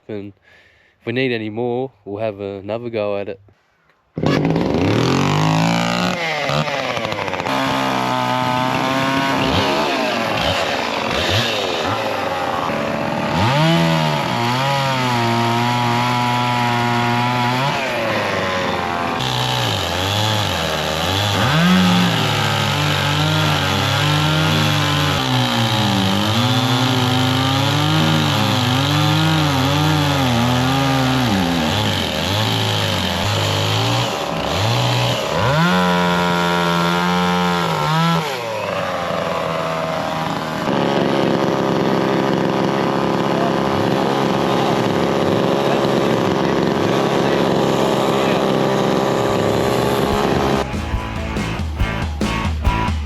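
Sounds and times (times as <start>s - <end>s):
chainsaws cutting logs: 4.2s - 52.9s.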